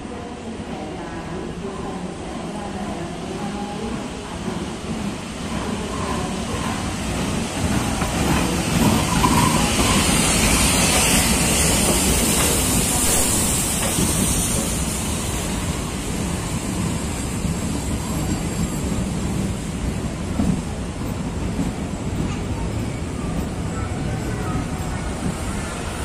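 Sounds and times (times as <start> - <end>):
train coaches rolling on rails: 2.4 - 26.0
steam locomotive hissing: 3.1 - 26.0.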